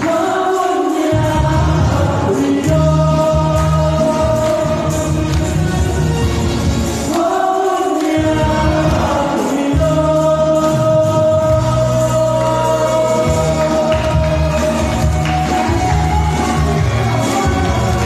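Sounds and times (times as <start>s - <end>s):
person singing: 0.0s - 5.8s, 7.1s - 18.0s
song through loudspeakers: 0.0s - 18.0s.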